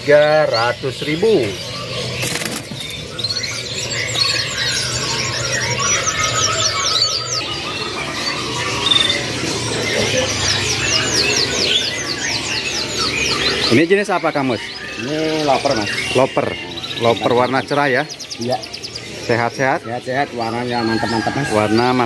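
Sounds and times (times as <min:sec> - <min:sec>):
canaries singing with trills: 0:00.0 - 0:22.0.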